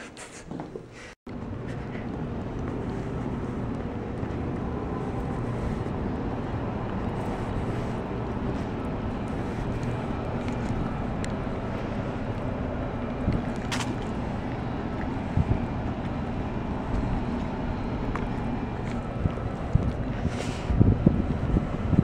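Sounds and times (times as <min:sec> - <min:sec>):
low rumble of vehicle noise: 0:01.3 - 0:22.0.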